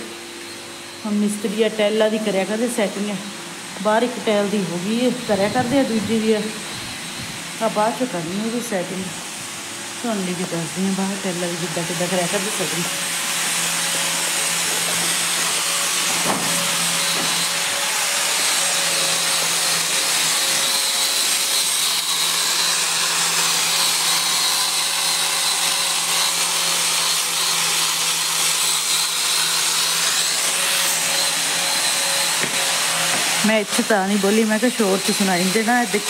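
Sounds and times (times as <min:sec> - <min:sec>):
angle grinder cutting stone: 0:00.0 - 0:36.0.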